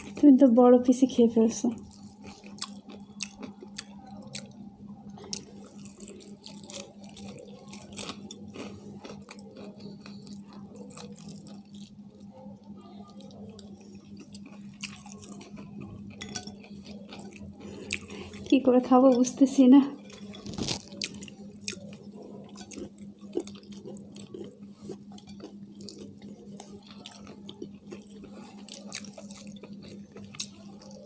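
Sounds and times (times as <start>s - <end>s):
people chewing fried chicken: 0.0s - 0.4s, 1.5s - 19.4s, 20.0s - 31.0s
steady low hum: 0.0s - 31.0s.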